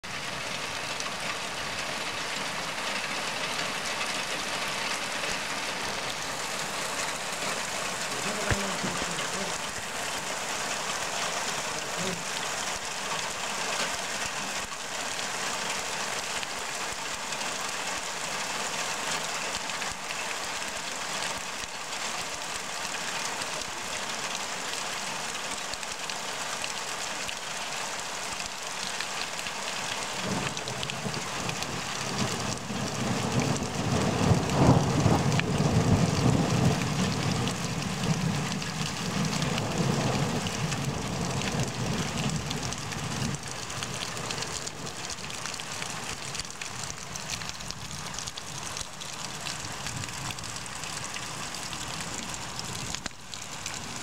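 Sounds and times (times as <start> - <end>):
heavy rain on muddy ground: 0.0 - 54.0.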